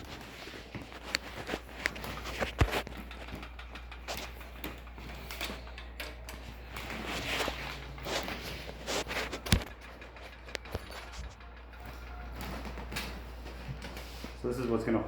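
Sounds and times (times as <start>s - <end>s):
computer parts clicking and knocking: 0.0s - 14.1s.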